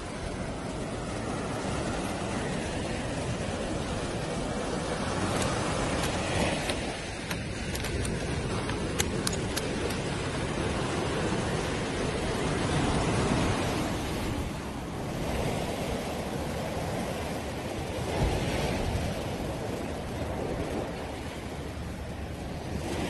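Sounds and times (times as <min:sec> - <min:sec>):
surf washing onto beach: 0:00.0 - 0:23.0.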